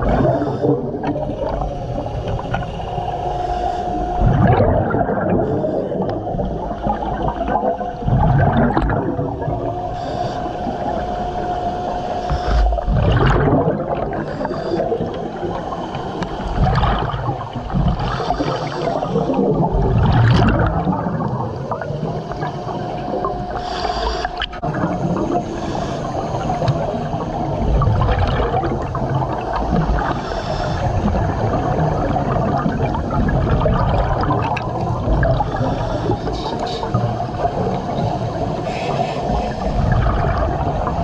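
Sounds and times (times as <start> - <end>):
gurgling underwater bubbles: 0.0 - 41.0
steady hum: 0.0 - 41.0.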